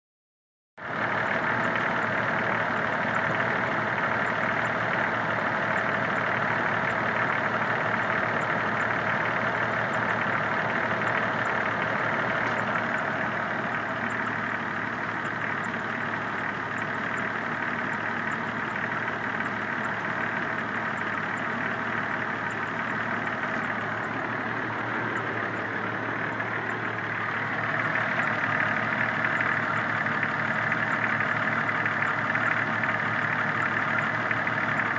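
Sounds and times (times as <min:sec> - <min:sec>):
car engine running: 0:00.8 - 0:34.9.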